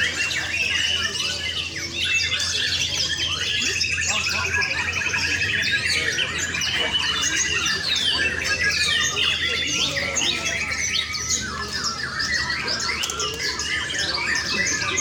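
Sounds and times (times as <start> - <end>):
rapid bird trill: 0.0 - 15.0
songbirds singing: 0.0 - 15.0.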